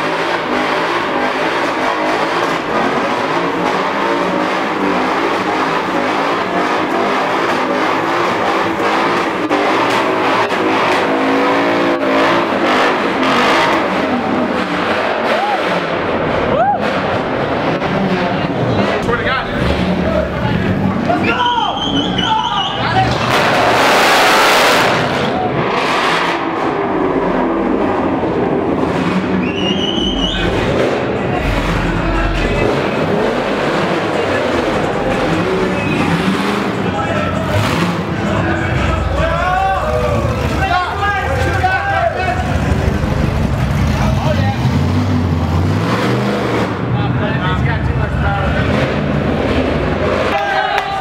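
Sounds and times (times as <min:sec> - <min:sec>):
car engine at high revs: 0:00.0 - 0:21.2, 0:22.9 - 0:50.8.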